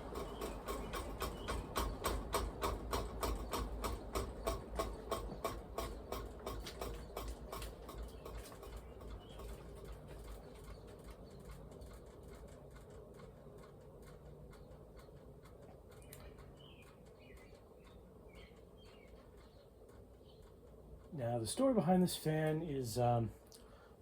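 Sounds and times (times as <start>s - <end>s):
ceiling fan humming: 0.0s - 24.0s
ceiling fan ticking: 0.0s - 24.0s.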